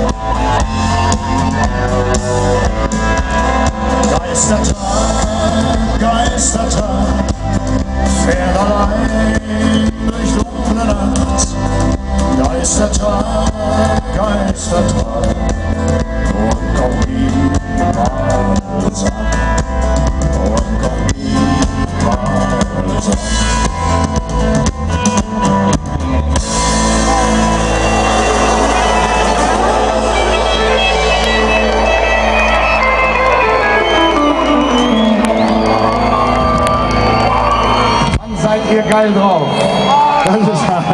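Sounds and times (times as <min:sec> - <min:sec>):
drum kit: 0:00.0 - 0:39.2
live country band playing: 0:00.0 - 0:40.9.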